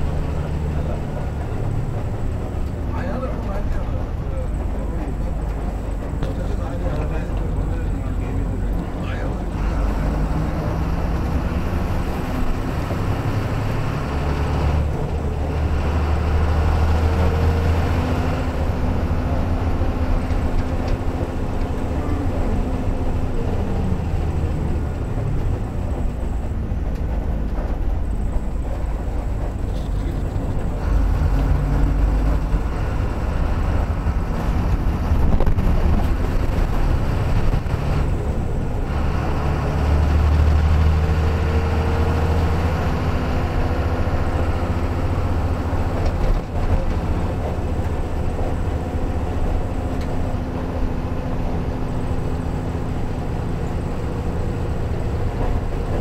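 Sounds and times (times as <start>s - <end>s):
bus engine drone: 0.0s - 56.0s
tyres rumbling on road: 0.0s - 56.0s.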